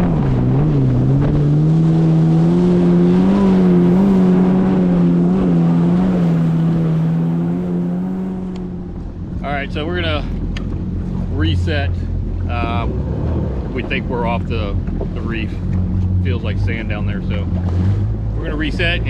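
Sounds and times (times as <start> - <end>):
jet ski engine running: 0.0 - 19.0
water and wind rushing: 0.0 - 19.0.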